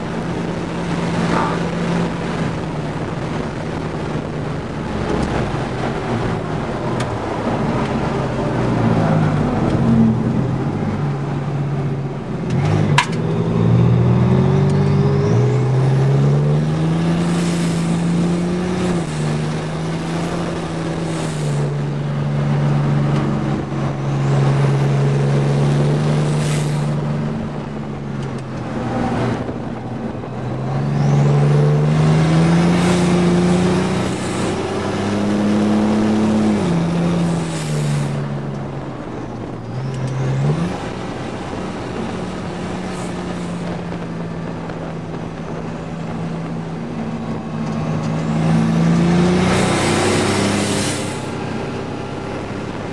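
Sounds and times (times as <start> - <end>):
turbocharged engine accelerating: 0.0 - 52.9
wind and road noise: 0.0 - 52.9.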